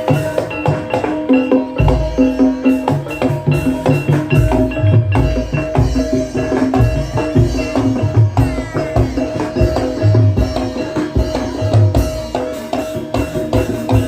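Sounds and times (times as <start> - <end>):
hand-drum strokes: 0.0 - 14.0
ringing tuned metal instruments: 0.0 - 14.0.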